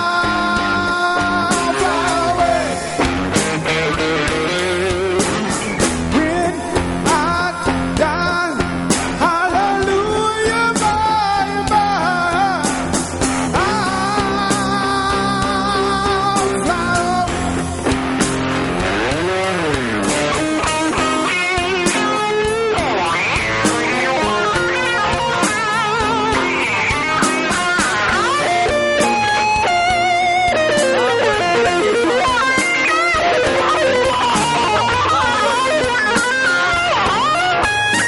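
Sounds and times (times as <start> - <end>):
person singing: 0.0 - 18.0, 18.9 - 38.0
band music: 0.0 - 38.0
electric guitar melody: 0.0 - 38.0
drum hits: 1.5 - 10.9, 12.4 - 38.0.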